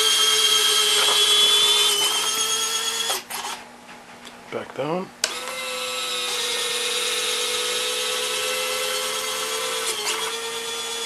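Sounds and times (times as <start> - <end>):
electric motor whine: 0.0 - 3.6, 5.2 - 11.0.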